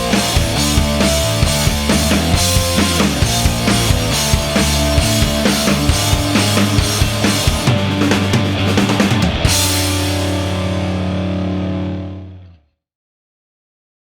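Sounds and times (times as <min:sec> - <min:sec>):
rock music with drums and guitar: 0:00.0 - 0:12.5.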